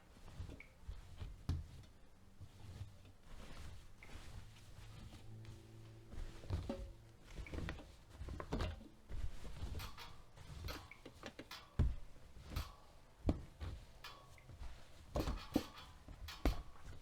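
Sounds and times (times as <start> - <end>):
soft knocks and clicks: 2.8 - 17.0.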